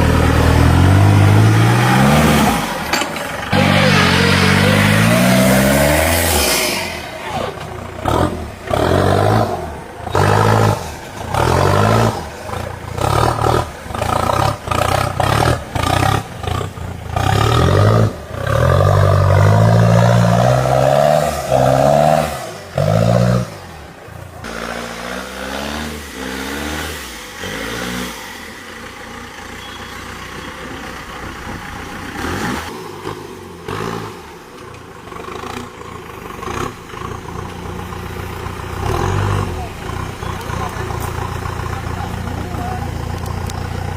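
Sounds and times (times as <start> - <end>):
engine revving: 0.0 - 30.5, 31.7 - 43.9.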